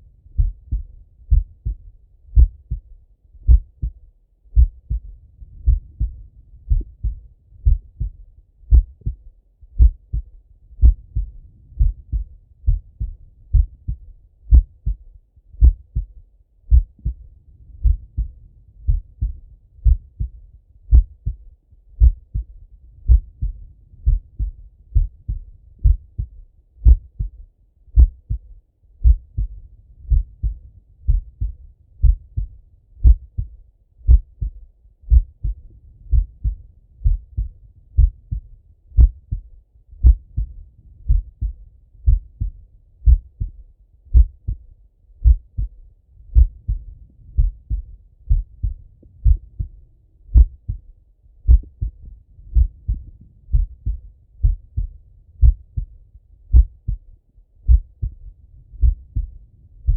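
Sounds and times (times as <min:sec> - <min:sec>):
heartbeat through stethoscope: 0:00.0 - 0:59.9.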